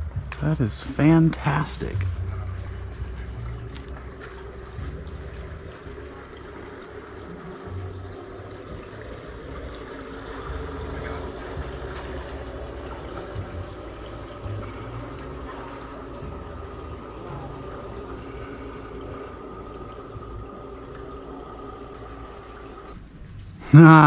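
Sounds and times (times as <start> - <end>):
low rumbling: 0.0 - 24.0
water lapping and trickling: 0.0 - 24.0.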